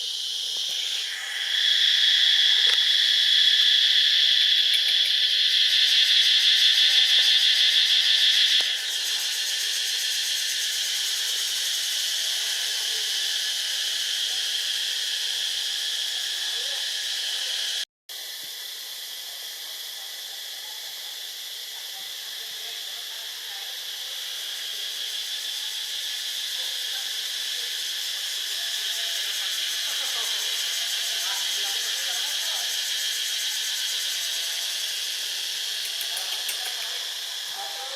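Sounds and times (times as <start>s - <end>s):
high-pitched insect chorus: 0.0s - 37.9s.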